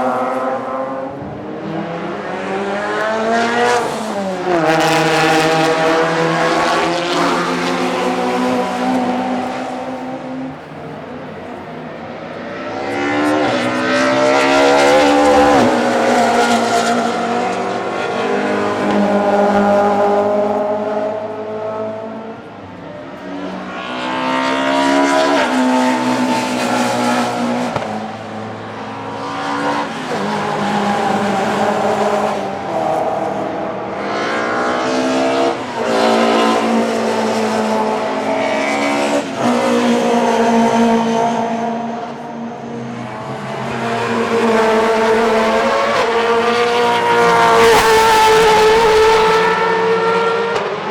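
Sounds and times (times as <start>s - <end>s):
racing cars revving past: 0.0s - 50.9s.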